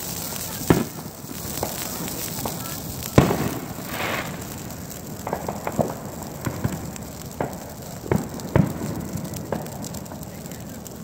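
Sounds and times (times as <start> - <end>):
crackles and pops of burning branches: 0.0 - 11.0
fire roaring: 0.0 - 11.0.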